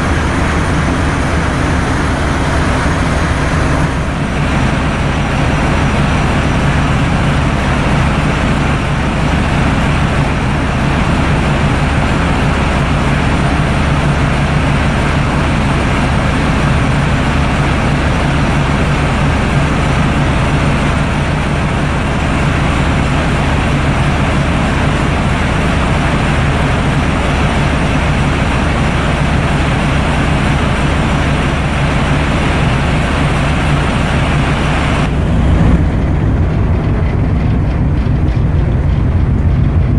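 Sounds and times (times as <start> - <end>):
diesel engine room machinery: 0.0 - 39.9.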